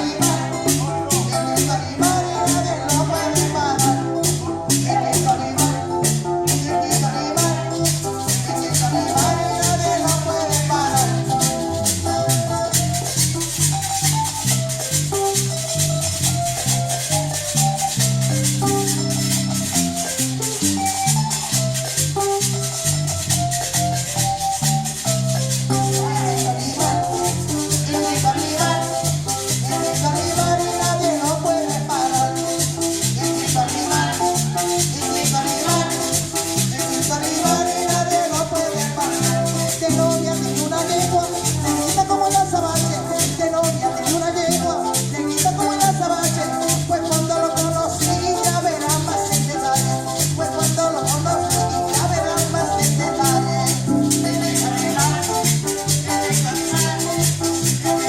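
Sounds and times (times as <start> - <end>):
fast shaker rhythm: 0.0 - 58.0
latin-style pop song: 0.0 - 58.0.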